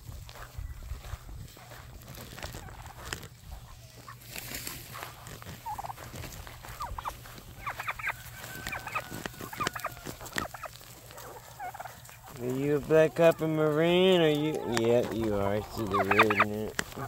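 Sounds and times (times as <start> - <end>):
rustling steps in grass: 0.0 - 17.0
turkeys gobbling: 0.4 - 17.0.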